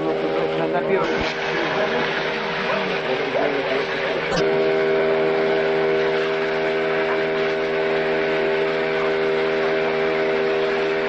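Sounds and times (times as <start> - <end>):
heavy vehicle engine droning: 0.0 - 11.0.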